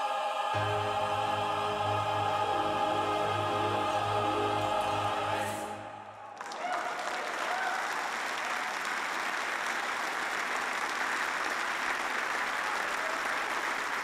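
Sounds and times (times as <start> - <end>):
congregation applauding: 0.6 - 14.0.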